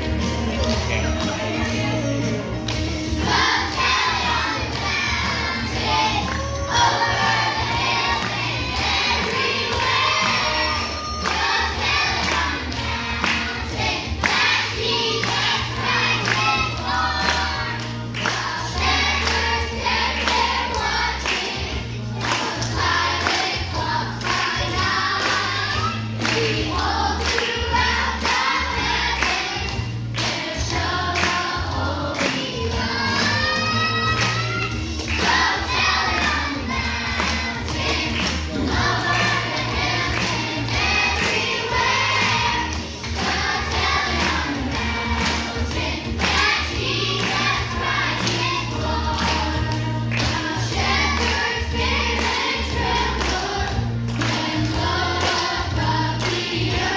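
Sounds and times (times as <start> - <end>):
choir singing: 1.8 - 56.9.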